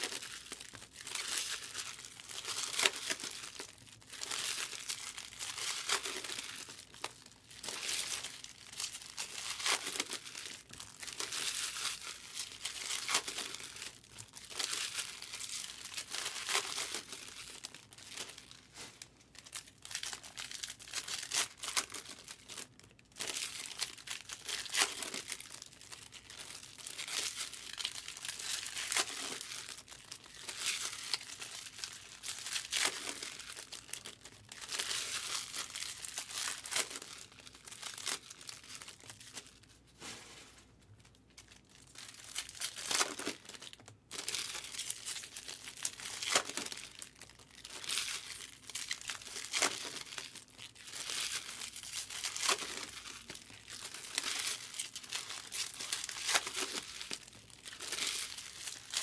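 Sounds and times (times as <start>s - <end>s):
foil wrappers crinkling and tearing: 0.0s - 40.2s, 40.9s - 59.0s.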